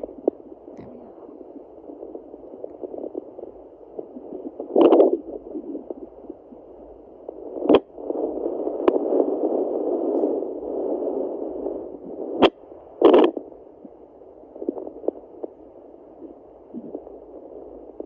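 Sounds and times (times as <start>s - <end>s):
probe scraping crackles: 0.0s - 18.0s.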